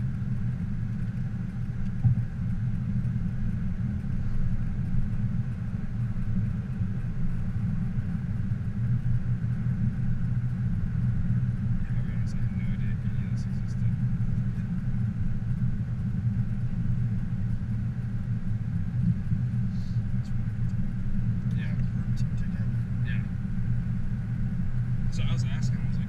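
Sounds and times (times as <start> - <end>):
faint high hum: 0.0 - 26.0
road and drivetrain rumble: 0.0 - 26.0.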